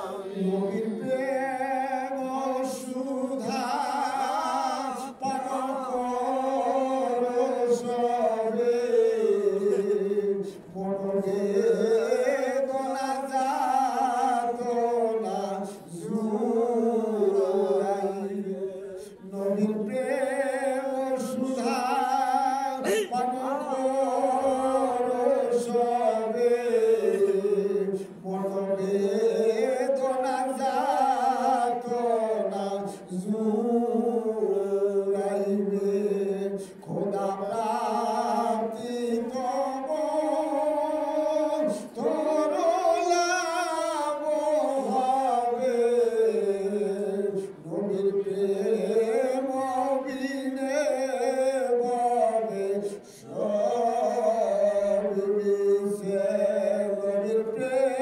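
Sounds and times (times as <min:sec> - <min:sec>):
man chanting: 0:00.0 - 0:58.0.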